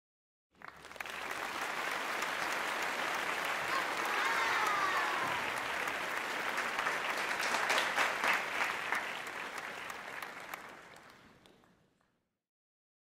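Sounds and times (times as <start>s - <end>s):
crowd applauding: 0.6s - 12.1s.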